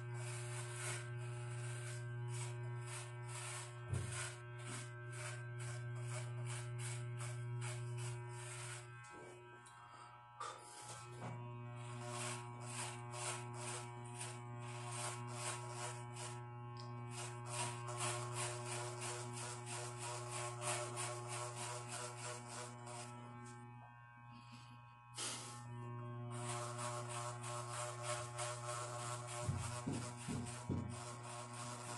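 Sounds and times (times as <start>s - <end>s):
electric hair clipper buzzing: 0.0s - 31.9s.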